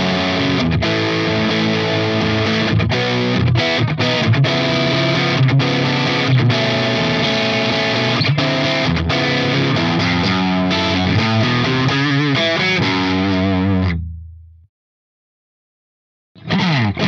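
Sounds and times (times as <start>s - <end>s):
distorted electric guitar: 0.0s - 14.5s, 16.4s - 17.0s.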